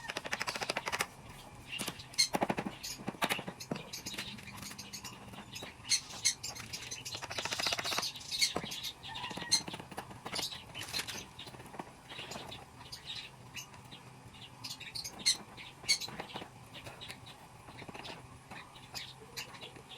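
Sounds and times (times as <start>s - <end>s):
budgerigars chirping: 0.0s - 19.9s.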